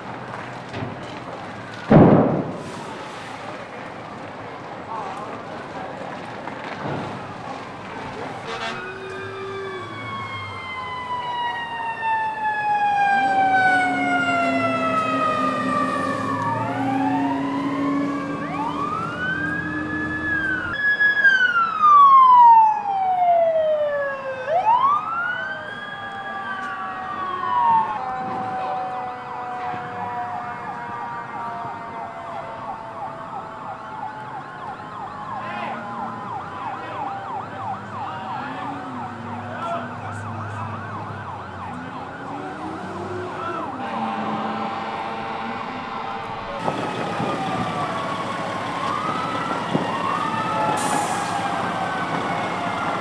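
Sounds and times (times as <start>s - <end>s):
sirens wailing: 0.0s - 53.0s
warbling siren: 8.4s - 53.0s.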